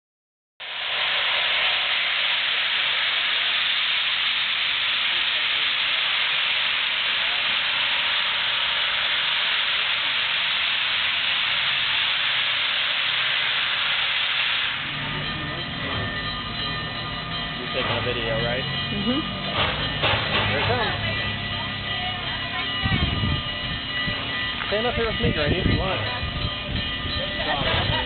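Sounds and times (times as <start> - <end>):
steam locomotive hissing: 0.6 - 28.0.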